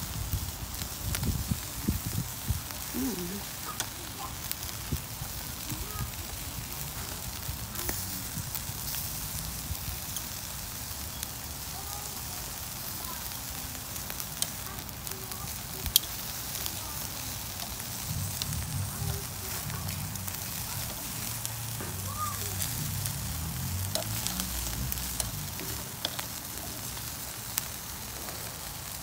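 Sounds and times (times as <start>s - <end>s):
crackling pops: 0.0s - 29.0s
food sizzling on a grill: 0.0s - 29.0s.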